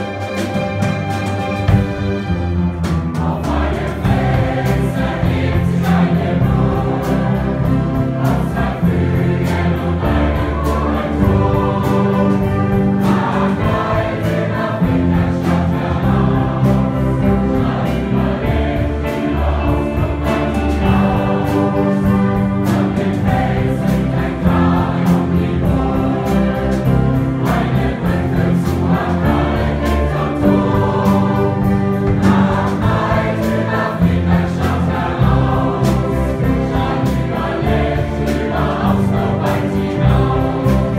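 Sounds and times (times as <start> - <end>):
children's choir singing: 0.0 - 40.9
orchestra and big band playing: 0.0 - 40.9.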